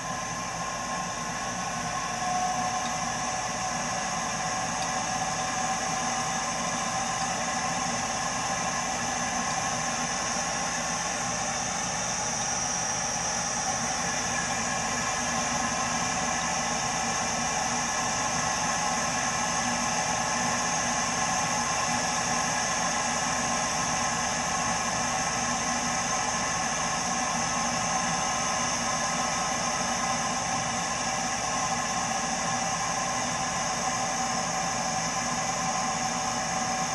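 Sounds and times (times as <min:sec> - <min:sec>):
gas boiler hissing with tones: 0:00.0 - 0:36.9.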